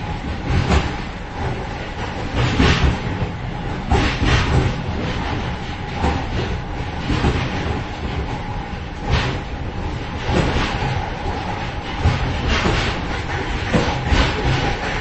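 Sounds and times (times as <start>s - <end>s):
train rumble: 0.0s - 15.0s
wheels clacking over rail joints: 0.4s - 15.0s.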